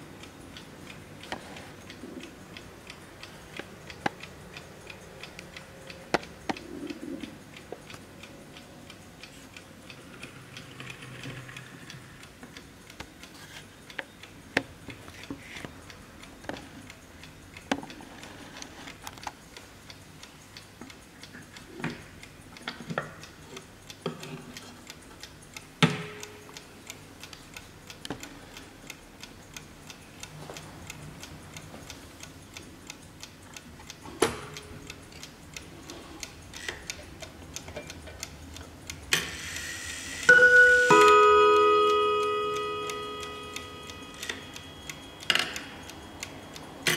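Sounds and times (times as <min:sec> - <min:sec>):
mechanical clock ticking: 0:00.0 - 0:46.9.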